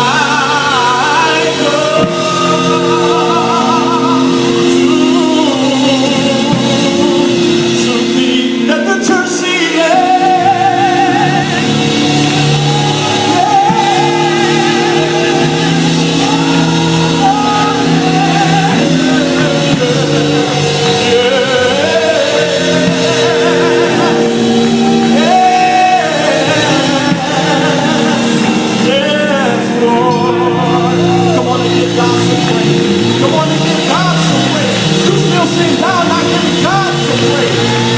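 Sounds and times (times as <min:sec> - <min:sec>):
person singing gospel with vibrato: 0:00.0 - 0:37.9
steady held chords: 0:00.0 - 0:37.9.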